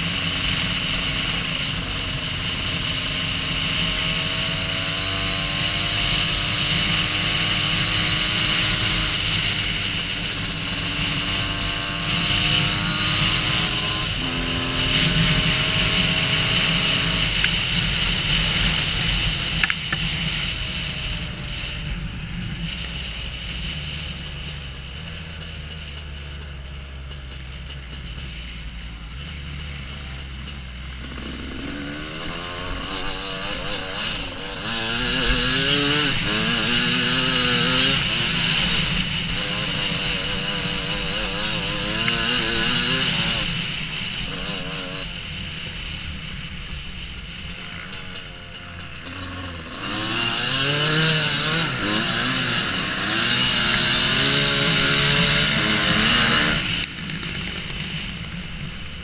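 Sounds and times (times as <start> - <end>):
dirt bike engine revving: 0.0 - 28.4, 29.1 - 59.0.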